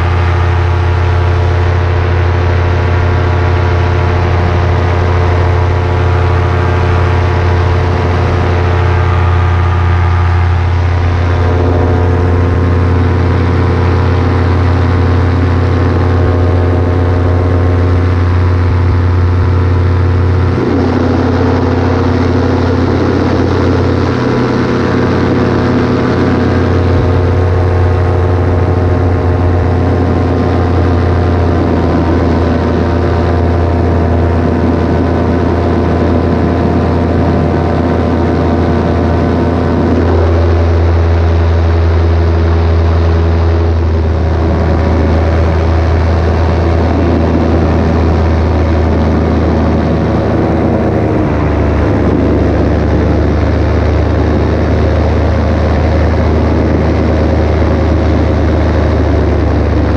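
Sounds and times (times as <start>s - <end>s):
paramotor engine and propeller: 0.0s - 59.9s.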